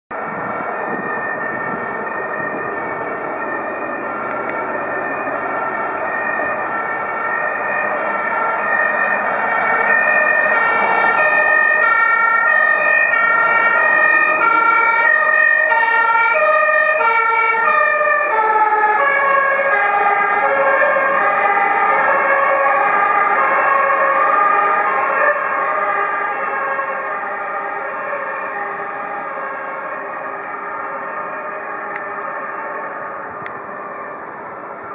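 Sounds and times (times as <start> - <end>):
fire engine two-tone siren: 0.1 - 34.9
road traffic: 0.1 - 34.9.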